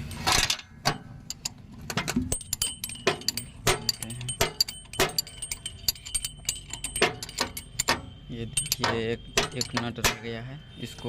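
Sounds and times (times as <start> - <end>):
spanner clicking on metal nuts: 0.0 - 10.4.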